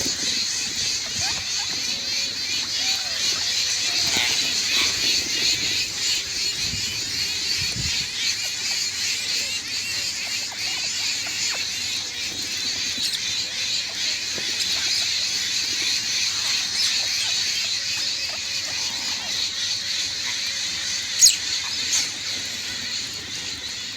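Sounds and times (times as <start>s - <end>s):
chattering bird calls: 0.0s - 23.9s.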